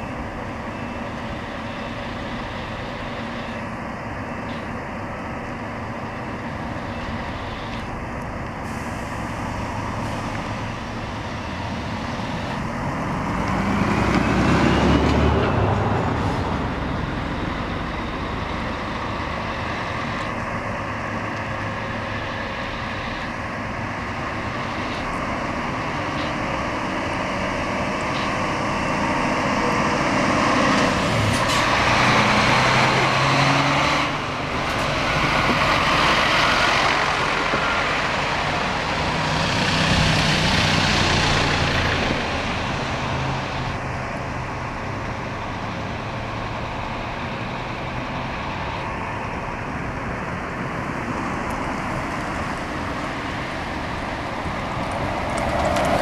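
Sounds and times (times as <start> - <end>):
coach diesel engine driving past: 8.8 - 56.0.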